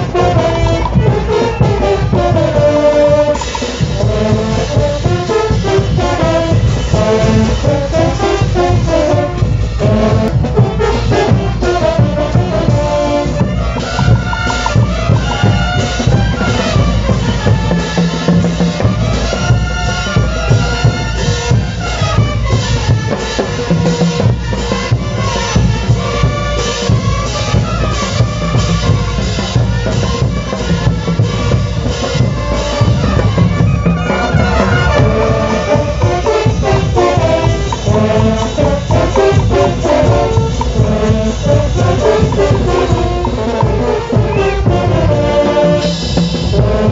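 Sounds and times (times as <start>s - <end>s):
marching brass band playing: 0.0s - 46.9s.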